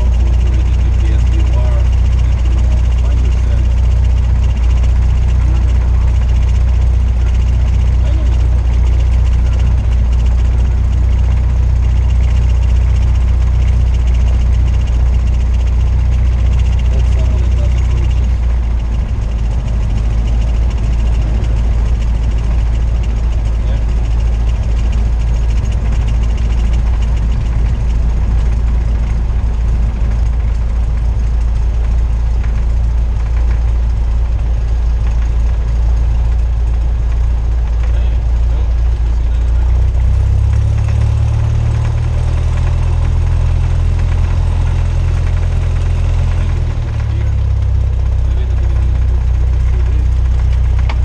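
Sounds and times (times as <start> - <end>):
aircraft engine and propeller droning: 0.0 - 51.0.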